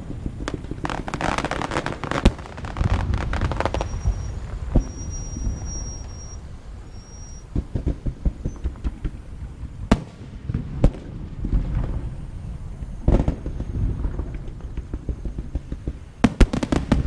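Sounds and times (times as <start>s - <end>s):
fireworks booming and crackling: 0.0s - 17.0s
sharp loud fireworks bangs: 0.0s - 17.0s.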